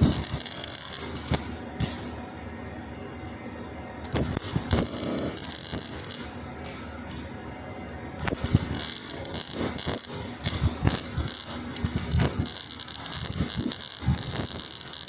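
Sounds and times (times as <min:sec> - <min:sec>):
welding arc crackling and sizzling: 0:00.0 - 0:02.5, 0:04.0 - 0:07.4, 0:08.2 - 0:15.0.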